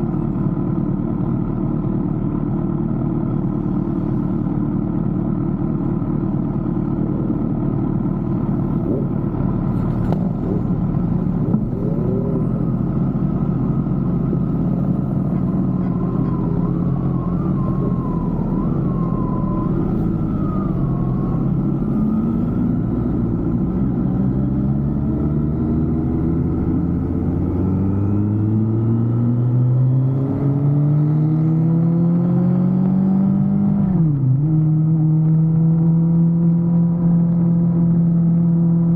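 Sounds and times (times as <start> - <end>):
vehicle engine speeding up: 7.0 - 38.9.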